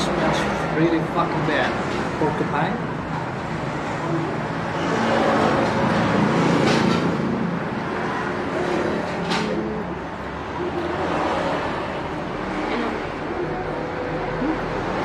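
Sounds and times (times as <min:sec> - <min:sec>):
vehicle passing: 0:00.0 - 0:15.0.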